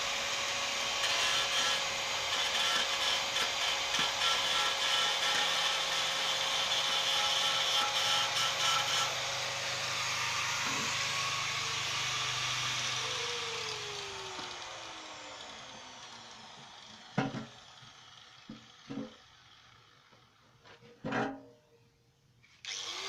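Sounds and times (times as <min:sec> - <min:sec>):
power tool spinning down: 0:00.0 - 0:20.4, 0:22.5 - 0:23.0.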